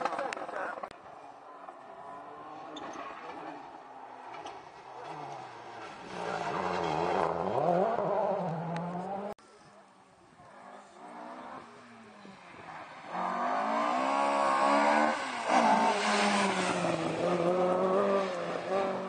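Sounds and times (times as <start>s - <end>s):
rally car engine accelerating: 2.0s - 9.4s, 10.6s - 19.0s.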